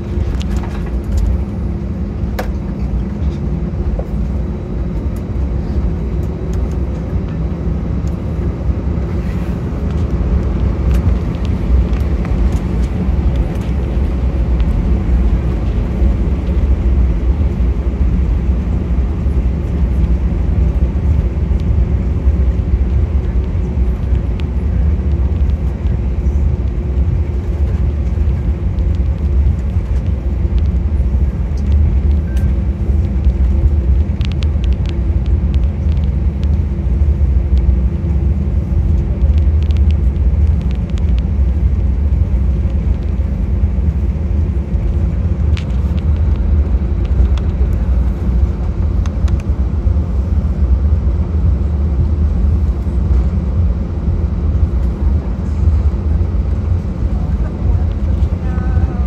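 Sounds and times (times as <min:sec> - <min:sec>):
airplane cabin low rumble: 0:00.0 - 0:59.0
faint steady hum: 0:00.0 - 0:59.0.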